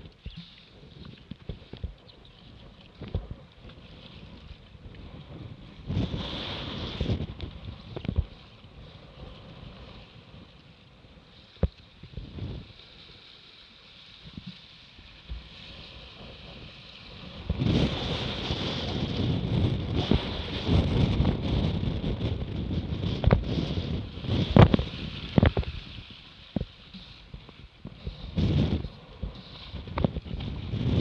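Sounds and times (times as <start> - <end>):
wind on microphone: 0.0 - 13.2, 14.2 - 31.0
water rushing along boat hull: 0.0 - 31.0.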